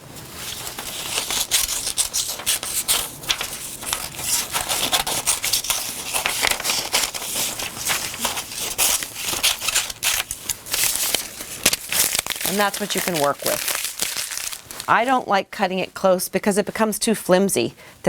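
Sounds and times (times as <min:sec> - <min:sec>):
paper rustling and crinkling: 0:00.0 - 0:15.2
scissors snipping paper: 0:00.2 - 0:14.9.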